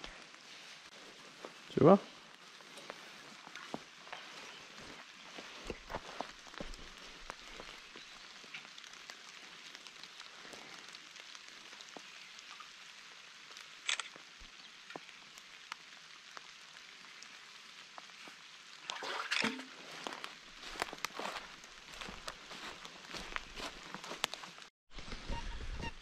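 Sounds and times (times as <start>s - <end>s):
light rain hissing: 0.0s - 25.1s.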